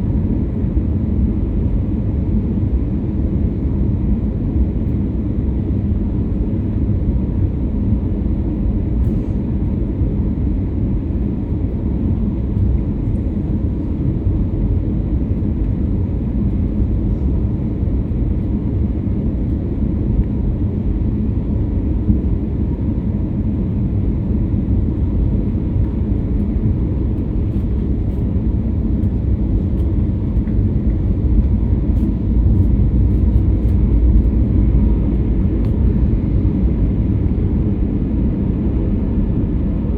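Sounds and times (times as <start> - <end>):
jet engines and rushing air: 6.5 - 39.9.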